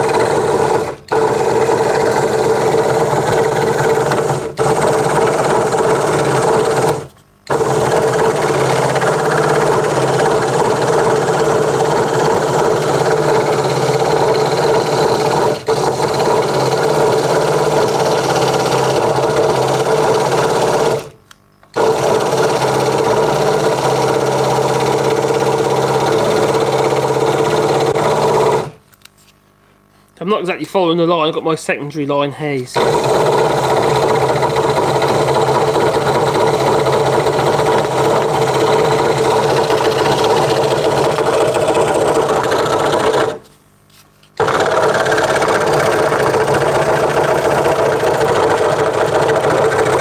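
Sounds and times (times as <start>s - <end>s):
scroll saw cutting wood: 0.0s - 21.2s, 21.8s - 28.8s, 32.8s - 43.5s, 44.4s - 50.0s.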